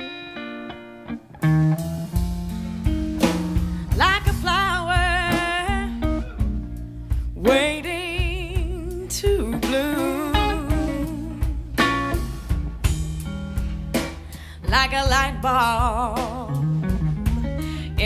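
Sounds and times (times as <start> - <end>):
lead guitar line with vibrato: 0.0 - 18.0
bass and drums: 1.2 - 18.0.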